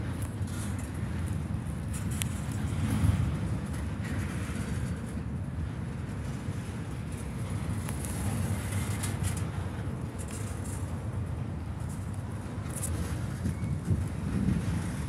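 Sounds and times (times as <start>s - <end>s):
freight train cars rolling: 0.0s - 15.0s.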